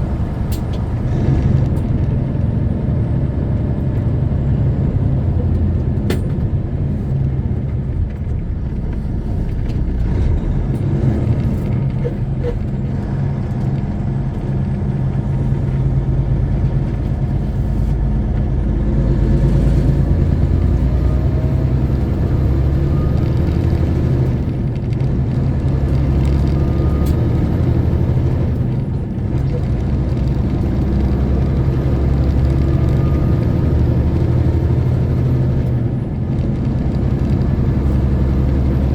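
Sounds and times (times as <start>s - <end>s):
road rumble: 0.0s - 38.9s
truck diesel engine running: 0.0s - 38.9s.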